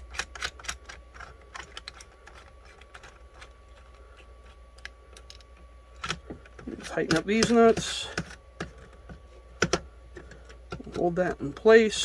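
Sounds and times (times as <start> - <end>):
plastic parts clicking: 0.0 - 12.0.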